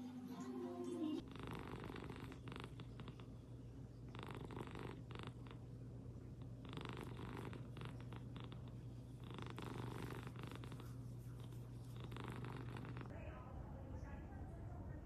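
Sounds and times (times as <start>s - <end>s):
cat purring: 0.4s - 15.0s.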